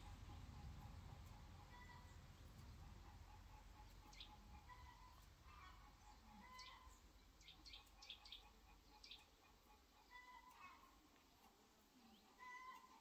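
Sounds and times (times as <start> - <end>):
faint bird chirps: 0.6 - 13.0.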